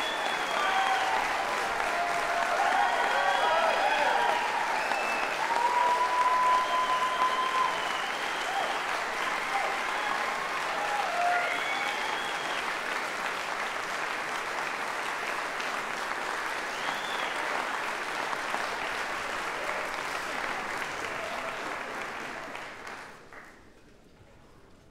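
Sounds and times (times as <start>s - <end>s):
audience applauding: 0.0s - 23.8s.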